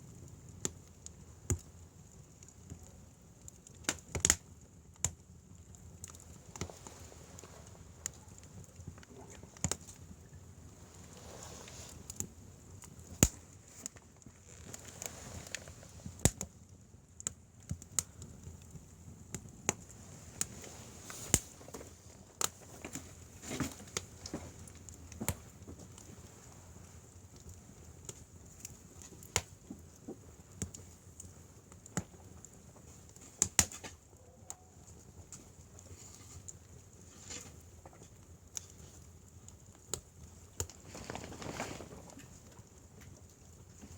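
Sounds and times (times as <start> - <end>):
faint steady hiss: 0.0 - 43.9
firewood crackling and popping: 0.0 - 43.9.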